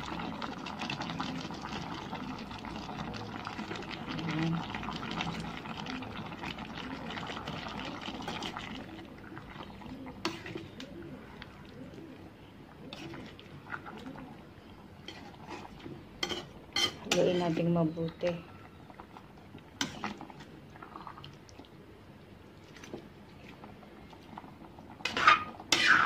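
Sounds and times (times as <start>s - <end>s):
curry bubbling in a pan: 0.0s - 26.0s.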